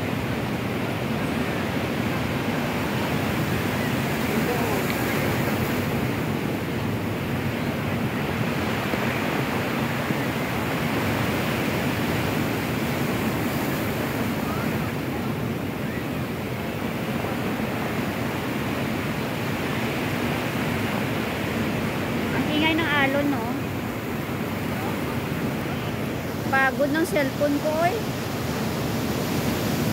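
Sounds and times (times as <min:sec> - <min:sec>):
sea waves breaking on shore: 0:00.0 - 0:29.9
wind blowing across microphone: 0:00.0 - 0:29.9.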